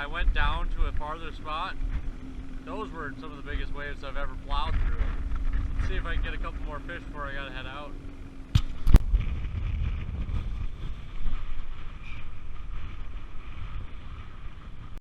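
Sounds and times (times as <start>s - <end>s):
choppy water against boat: 0.0s - 15.0s
wind buffeting microphone: 0.0s - 15.0s.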